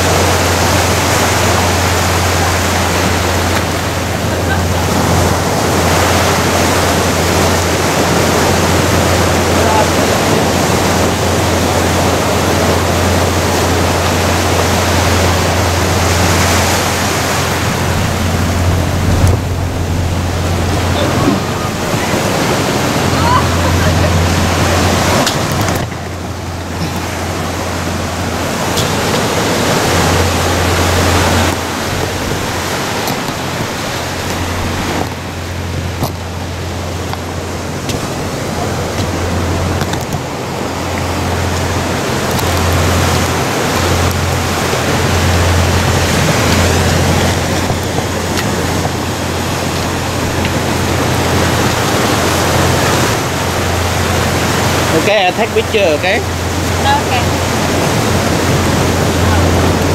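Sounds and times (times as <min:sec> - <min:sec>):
surf breaking among boulders: 0:00.0 - 0:59.9
wind rumble on microphone: 0:00.0 - 0:59.9.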